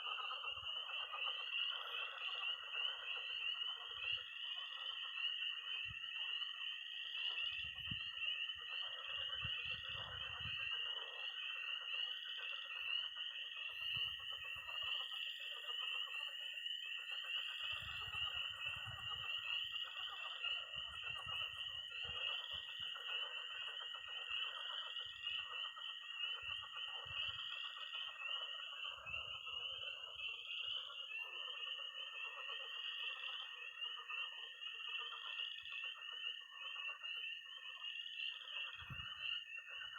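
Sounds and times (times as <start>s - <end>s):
frogs croaking: 0.0s - 39.9s
frogs peeping: 0.0s - 39.9s.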